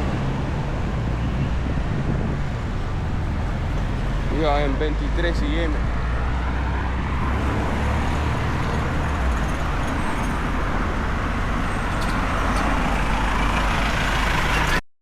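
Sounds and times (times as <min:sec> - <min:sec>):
street traffic passing: 0:00.0 - 0:14.8.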